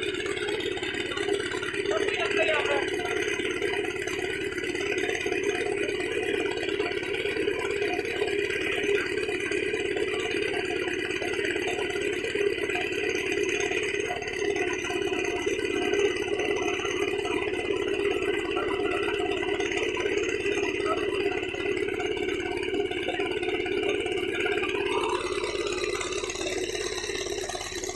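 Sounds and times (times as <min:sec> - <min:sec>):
rattling clatter: 0:00.0 - 0:27.9
small boat engine running: 0:00.0 - 0:27.9.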